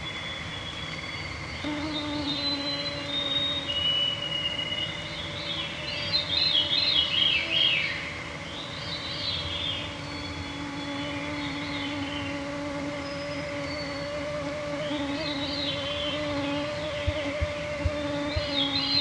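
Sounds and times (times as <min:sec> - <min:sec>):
songbirds singing: 0:00.0 - 0:19.0
mosquitoes whining: 0:01.6 - 0:08.2, 0:09.7 - 0:19.0.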